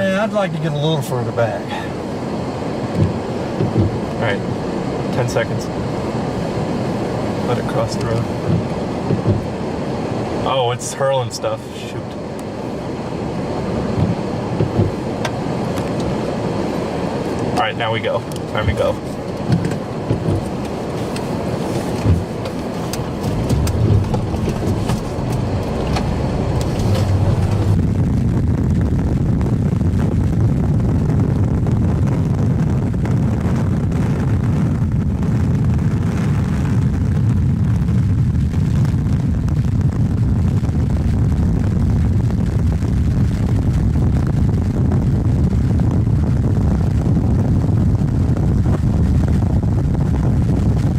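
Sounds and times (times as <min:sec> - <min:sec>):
road and engine rumble: 0:00.0 - 0:50.9.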